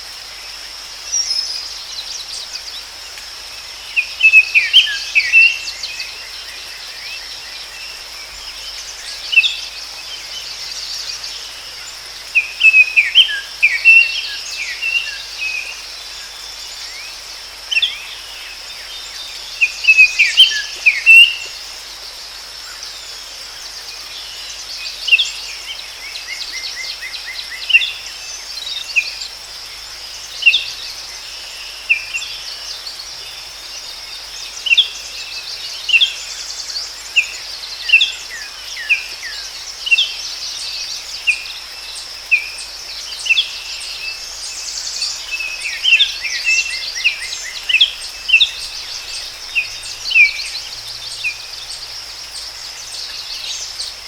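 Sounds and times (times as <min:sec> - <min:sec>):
insect trill: 0:00.0 - 0:54.0
songbird singing: 0:00.0 - 0:54.0.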